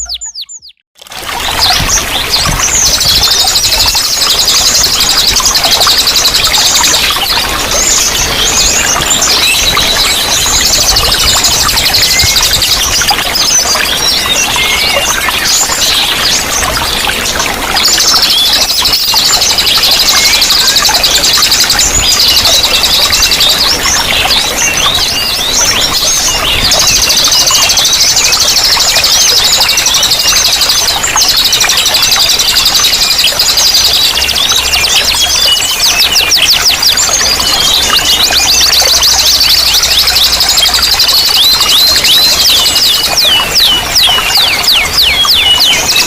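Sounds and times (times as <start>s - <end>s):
songbirds chorus trilling: 0.0s - 46.0s.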